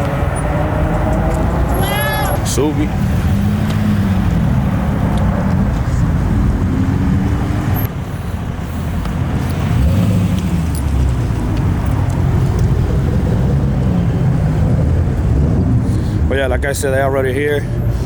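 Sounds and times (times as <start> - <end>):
car engine rumbling at low revs: 0.0 - 18.0.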